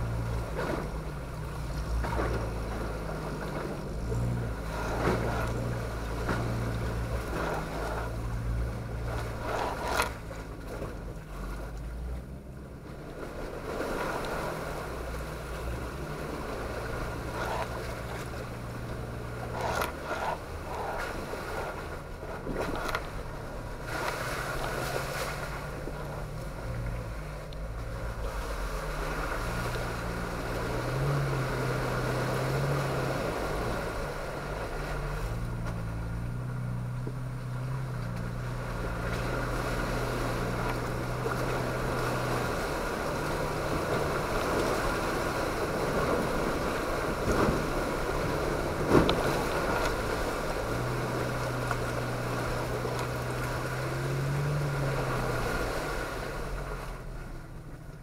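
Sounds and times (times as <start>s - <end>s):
engine running at crawling speed: 0.0s - 58.0s
water and mud sloshing under tyres: 0.0s - 58.0s.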